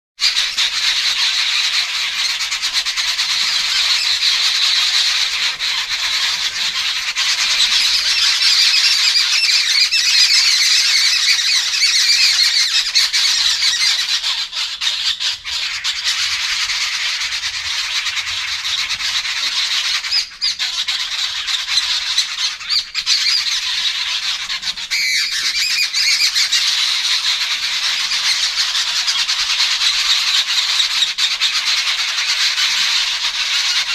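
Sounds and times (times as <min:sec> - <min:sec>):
birds chattering harshly: 0:00.2 - 0:33.9.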